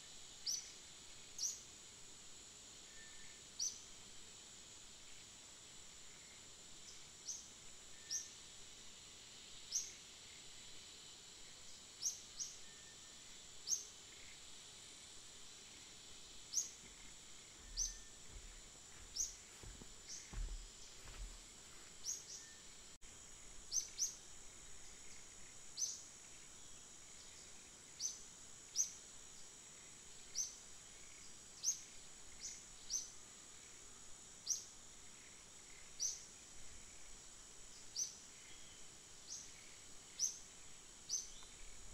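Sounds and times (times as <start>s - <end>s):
high insect drone: 0.0s - 41.9s.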